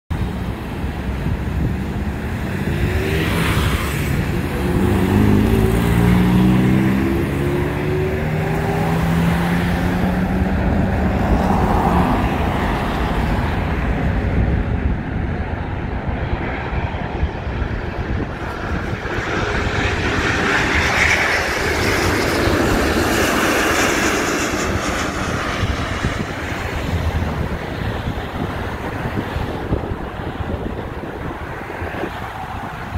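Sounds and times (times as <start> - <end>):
jet plane passing overhead: 0.1 - 32.9.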